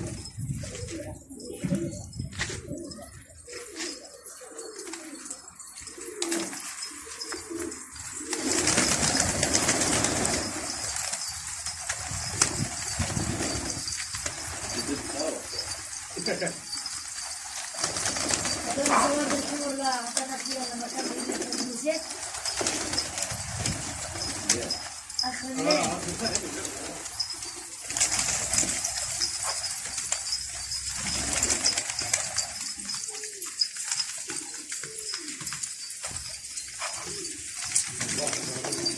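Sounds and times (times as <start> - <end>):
clicks and scuffs from pigeons: 0.0 - 38.9
pigeons cooing: 0.0 - 38.9.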